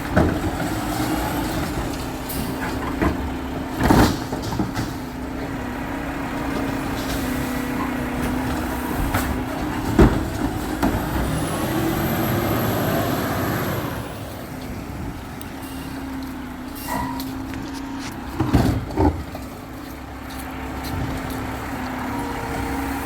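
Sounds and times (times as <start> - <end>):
garbage truck engine hum: 0.0 - 23.0.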